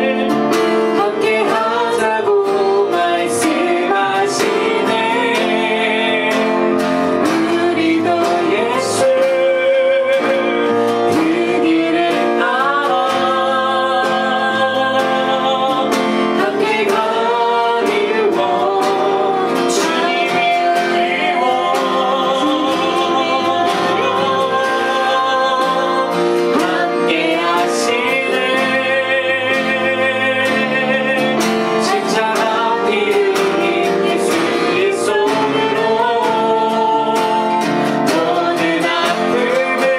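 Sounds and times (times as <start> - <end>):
acoustic guitar: 0.0 - 39.9
woman and man singing: 0.0 - 39.9.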